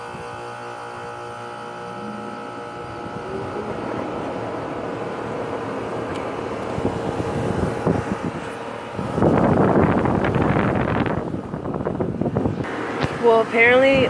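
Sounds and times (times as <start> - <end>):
fan whooshing drone: 0.0 - 14.0.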